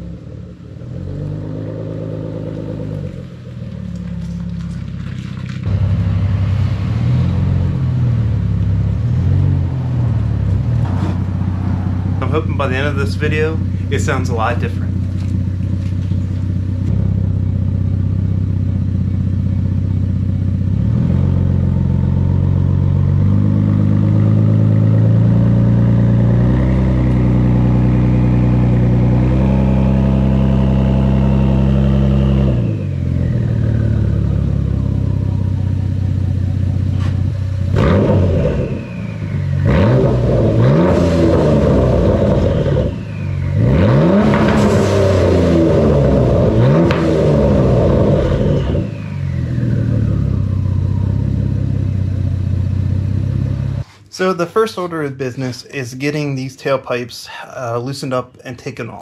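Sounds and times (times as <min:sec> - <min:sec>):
car engine idling and revving: 0:00.0 - 0:54.1
engine throttle blips: 0:00.0 - 0:54.1.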